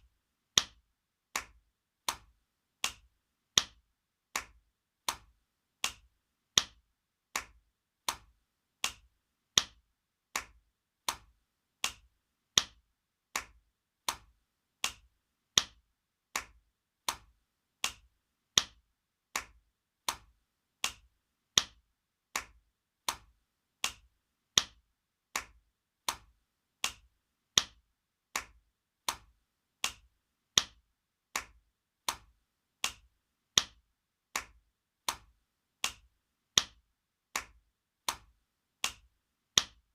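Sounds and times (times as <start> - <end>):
hand slapping skin: 0.6 - 39.8.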